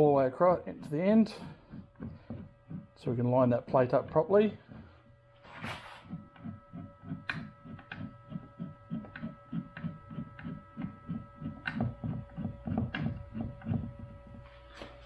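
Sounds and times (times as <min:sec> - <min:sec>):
lathe carriage rumbling pulse: 0:00.0 - 0:15.0
steady electrical hum: 0:00.0 - 0:15.0.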